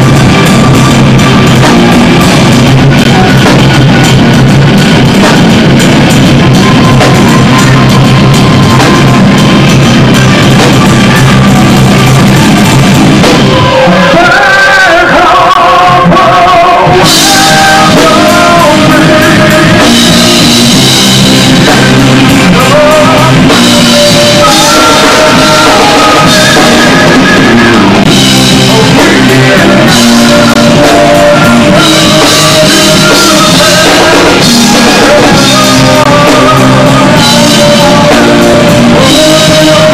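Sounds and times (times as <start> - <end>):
drums: 0.0 - 39.9
guitars: 0.0 - 39.9
person singing: 0.0 - 39.9.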